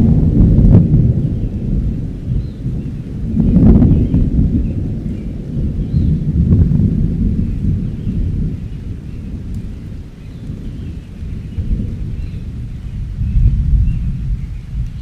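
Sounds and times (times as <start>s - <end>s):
rain: 0.0s - 15.0s
thunder rumbling: 0.0s - 15.0s.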